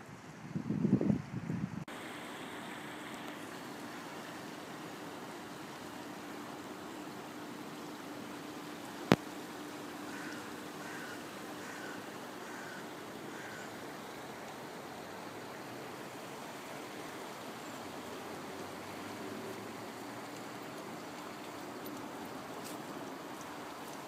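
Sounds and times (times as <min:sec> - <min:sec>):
river rushing: 0:01.9 - 0:24.0.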